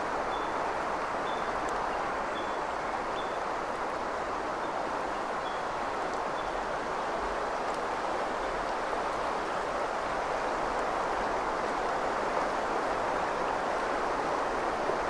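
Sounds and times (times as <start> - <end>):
river flowing over stones: 0.0 - 15.0.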